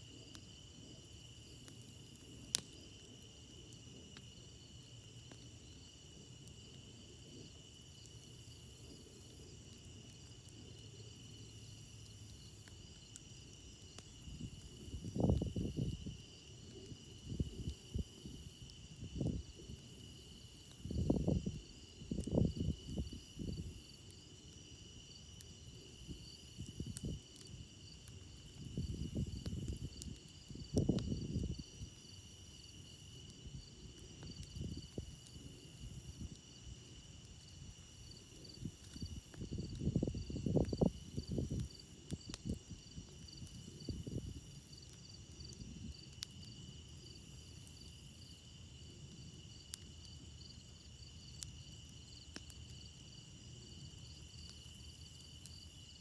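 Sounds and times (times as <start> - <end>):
crickets trilling: 0.0 - 56.0
fire crackling: 0.1 - 56.0.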